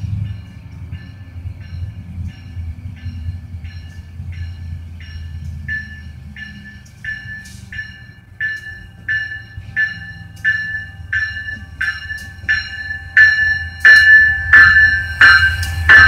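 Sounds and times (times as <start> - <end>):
diesel engine rumble: 0.0 - 16.0
locomotive bell ringing: 0.0 - 16.0.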